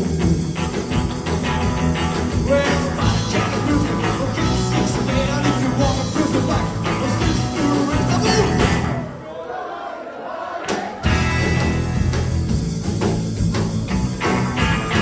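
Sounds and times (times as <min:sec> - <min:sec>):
rock and roll band playing: 0:00.0 - 0:09.2, 0:10.6 - 0:15.0.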